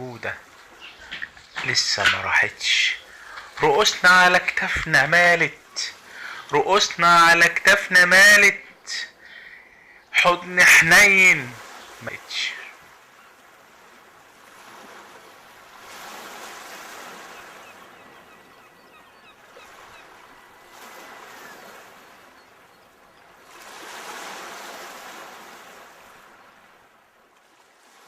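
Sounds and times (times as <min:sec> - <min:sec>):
sea waves breaking on shore: 0:00.0 - 0:28.0.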